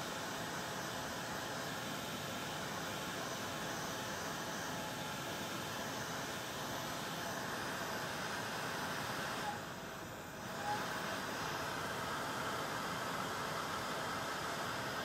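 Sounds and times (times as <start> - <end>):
heat tool blowing hot air: 0.0 - 15.0.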